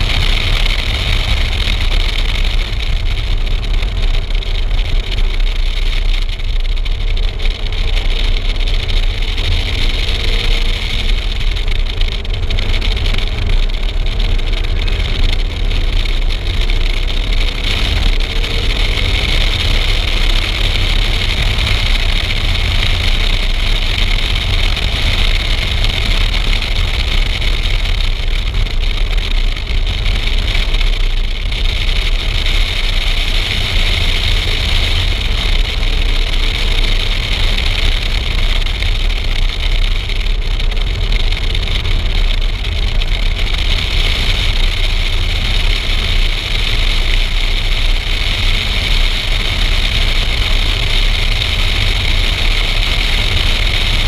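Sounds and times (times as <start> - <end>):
car engine: 0.0 - 54.0
wind rushing on microphone: 0.0 - 54.0.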